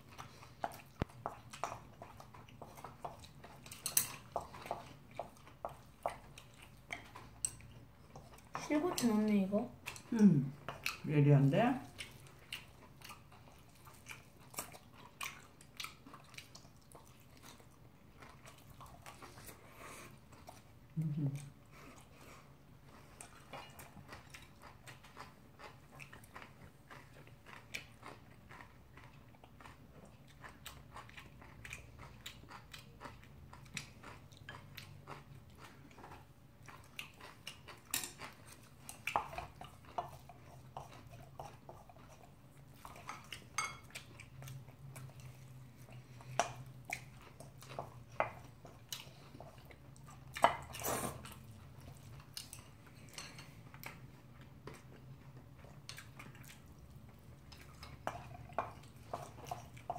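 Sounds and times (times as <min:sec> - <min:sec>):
chewing and smacking: 0:00.0 - 0:59.9.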